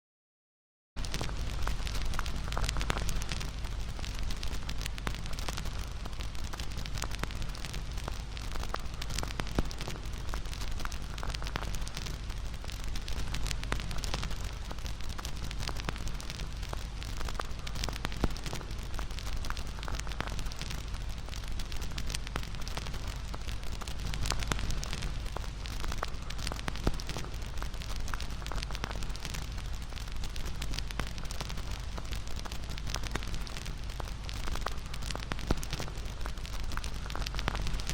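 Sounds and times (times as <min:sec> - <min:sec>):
burning wood crackling and popping: 0:01.0 - 0:37.9
low rumble of flames: 0:01.0 - 0:37.9.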